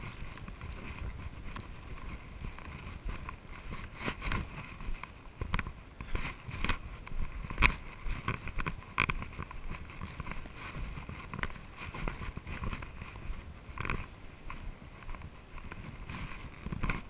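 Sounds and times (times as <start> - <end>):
low rumble of camera moving: 0.0 - 17.0.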